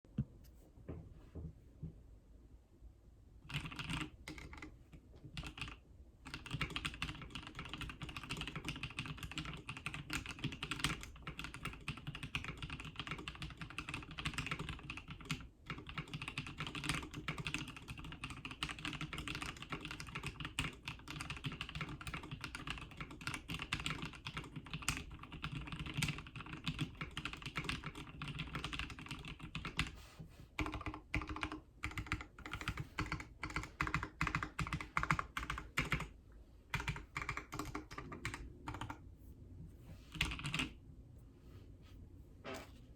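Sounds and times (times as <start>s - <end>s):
fast typing on mechanical keyboard: 3.4s - 29.9s, 30.6s - 36.1s, 36.7s - 39.0s, 40.1s - 40.8s.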